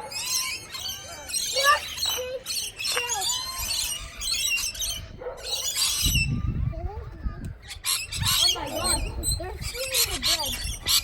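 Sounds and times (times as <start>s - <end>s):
parrots squawking and chirping: 0.0s - 6.6s, 7.5s - 11.0s.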